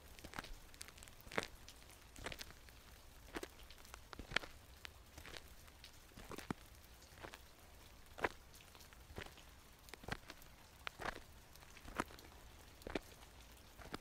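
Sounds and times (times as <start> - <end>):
crunching footsteps: 0.0 - 14.0.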